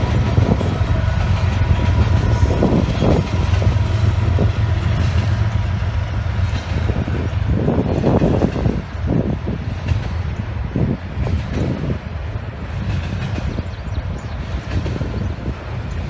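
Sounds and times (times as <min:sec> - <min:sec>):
diesel locomotives rumbling past: 0:00.0 - 0:16.0.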